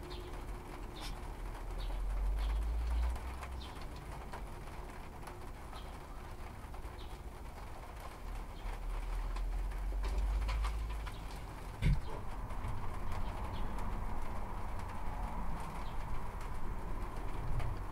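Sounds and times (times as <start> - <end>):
faint rustling of plants: 0.0 - 17.9.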